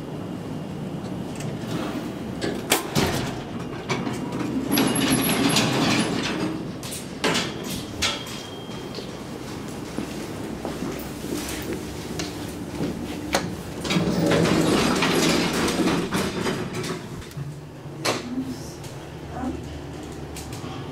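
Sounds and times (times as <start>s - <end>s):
metal elevator doors sliding: 0.9s - 20.9s.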